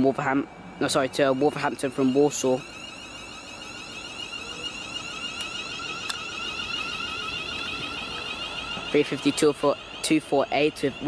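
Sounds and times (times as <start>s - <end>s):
electric train whine: 0.0s - 11.0s.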